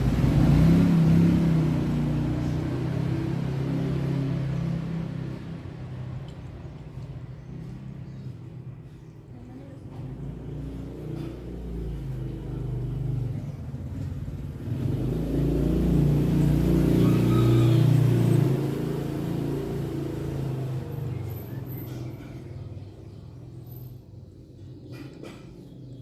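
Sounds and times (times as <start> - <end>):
vehicle engine passing: 0.0 - 9.0, 9.6 - 24.6.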